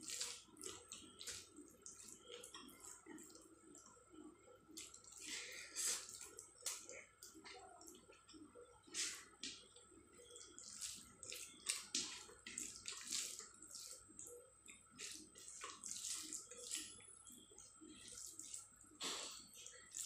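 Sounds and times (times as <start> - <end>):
fingers squishing wet rice: 0.0 - 20.0.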